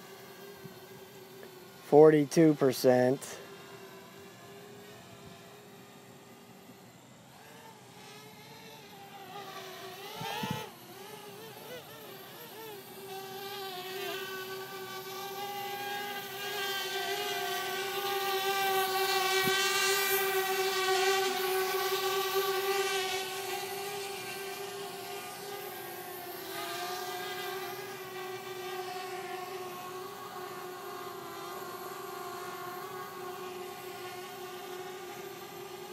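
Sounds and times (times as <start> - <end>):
drone propellers humming: 0.0 - 35.9.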